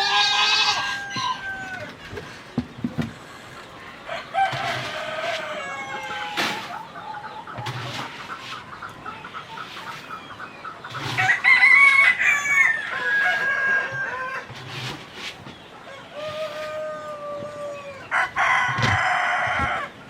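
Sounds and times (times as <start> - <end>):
roosters crowing: 0.0 - 8.6, 10.9 - 20.0
chickens clucking: 0.0 - 20.0.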